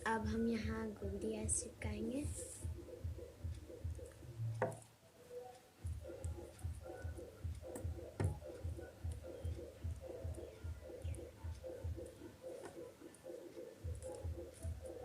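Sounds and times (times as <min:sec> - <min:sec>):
soft background music: 0:00.0 - 0:15.0
ticking beat: 0:00.0 - 0:15.0.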